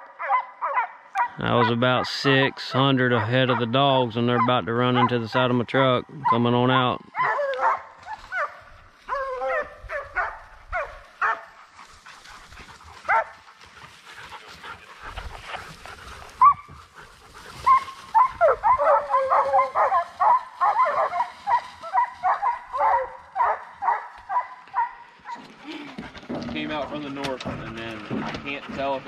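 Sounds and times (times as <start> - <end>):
hounds bawling: 0.0 - 29.0.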